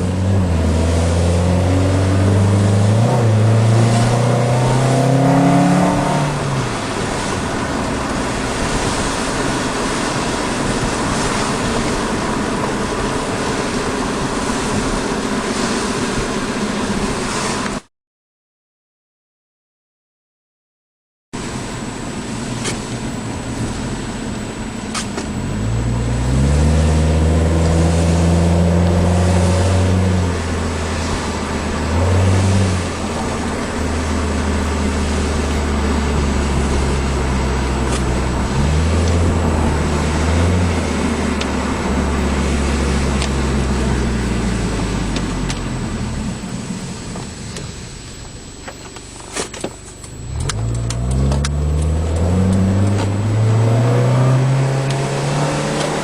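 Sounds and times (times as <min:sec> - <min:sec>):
car engine accelerating: 0:00.0 - 0:17.8, 0:21.4 - 0:48.3, 0:49.8 - 0:56.0.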